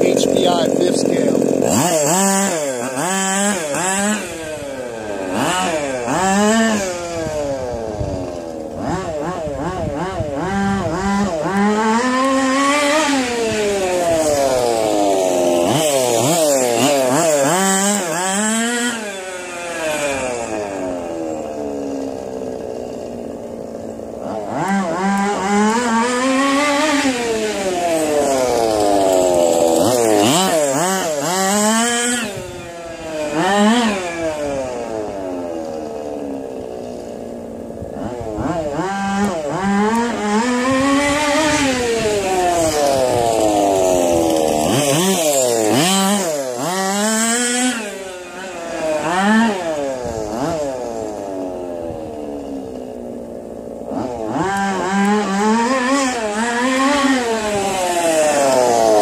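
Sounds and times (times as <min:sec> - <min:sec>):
rc buggy two-stroke engine revving: 0:00.0 - 0:59.0.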